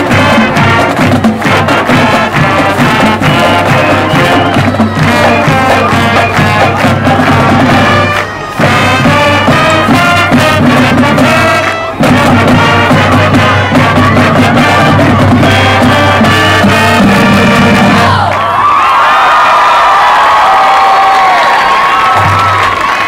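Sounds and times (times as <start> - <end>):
marching band playing: 0.0 - 18.4, 22.0 - 23.0.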